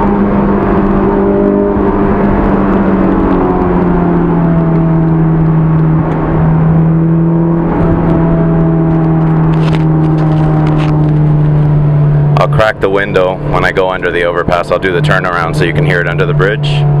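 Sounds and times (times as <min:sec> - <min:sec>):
car engine humming: 0:00.0 - 0:17.0
road noise: 0:00.0 - 0:17.0.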